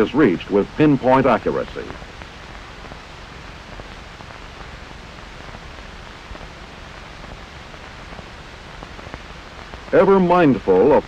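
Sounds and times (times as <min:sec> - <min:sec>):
film soundtrack hiss: 0:00.0 - 0:11.0.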